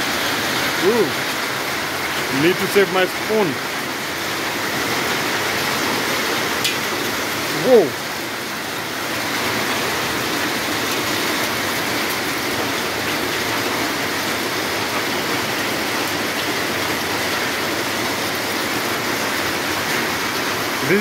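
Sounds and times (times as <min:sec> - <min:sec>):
hail and rain pelting roofs: 0:00.0 - 0:21.0.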